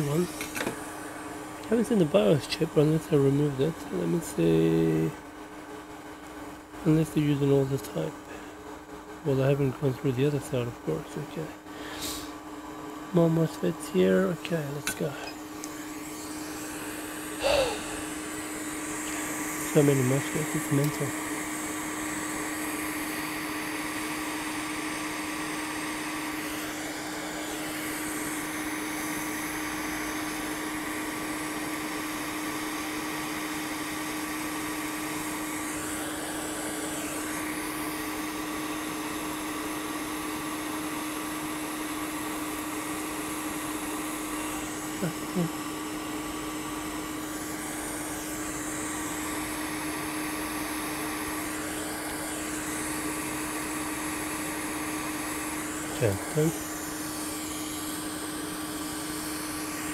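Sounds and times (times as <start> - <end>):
hot air station blowing and humming: 0.0 - 59.9.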